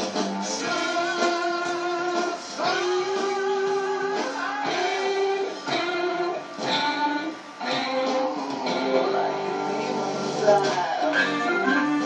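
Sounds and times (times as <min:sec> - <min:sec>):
guitar playing held notes: 0:00.0 - 0:12.0.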